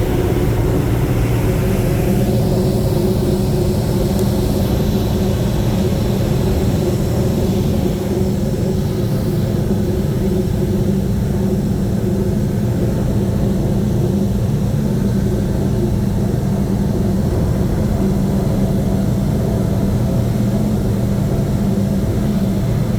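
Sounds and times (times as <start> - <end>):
propeller aircraft engines droning: 0.0 - 22.9.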